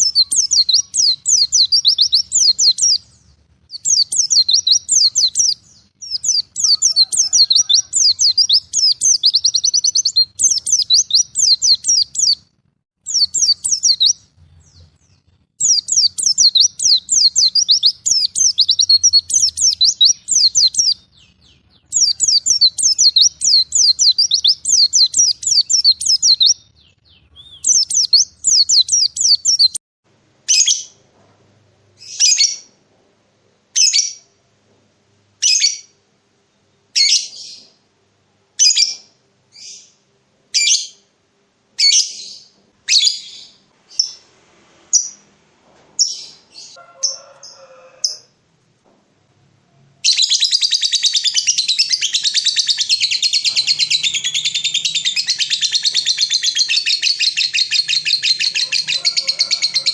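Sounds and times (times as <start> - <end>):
songbird singing: 0.0 - 29.8, 31.9 - 32.8, 35.4 - 37.9, 38.5 - 41.1, 41.8 - 44.3, 46.0 - 59.9.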